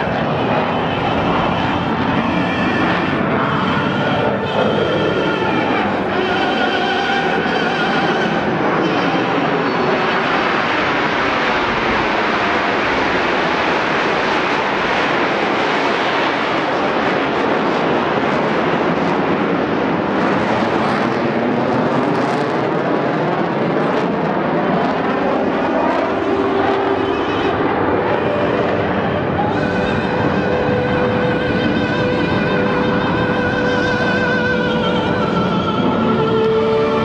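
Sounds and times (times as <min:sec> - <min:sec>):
jet aircraft passing: 0:00.0 - 0:37.0.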